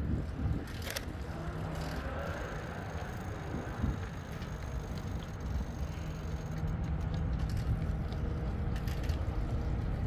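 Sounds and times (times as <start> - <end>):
bicycle tyres rolling on pavement: 0.0 - 10.0.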